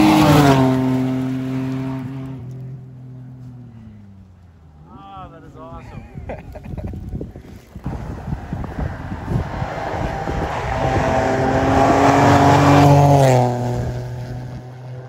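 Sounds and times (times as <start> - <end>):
rally car passing by: 0.0 - 5.8, 7.7 - 15.0.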